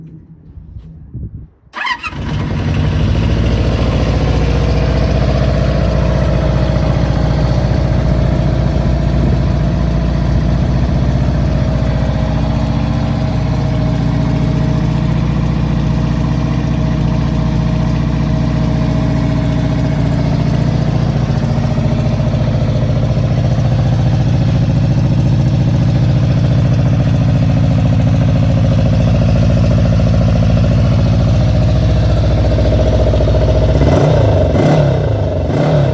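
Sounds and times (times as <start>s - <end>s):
motorcycle engine idling: 1.8s - 35.9s.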